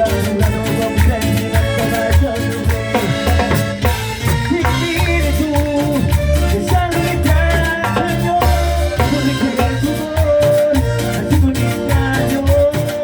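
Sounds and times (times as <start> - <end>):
salsa dance music: 0.0 - 13.0.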